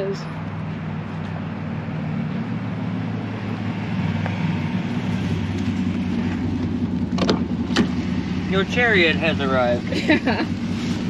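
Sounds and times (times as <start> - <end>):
pickup truck engine running: 0.3 - 11.0.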